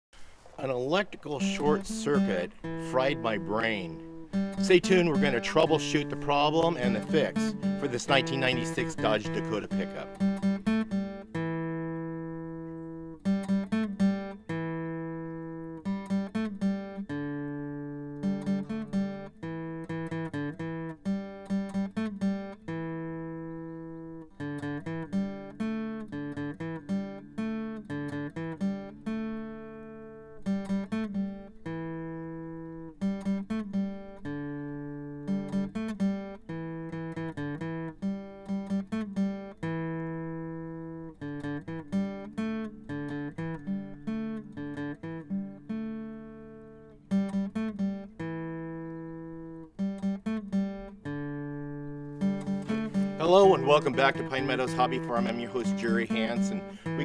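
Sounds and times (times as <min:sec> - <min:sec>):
acoustic guitar playing: 0:00.2 - 0:57.0.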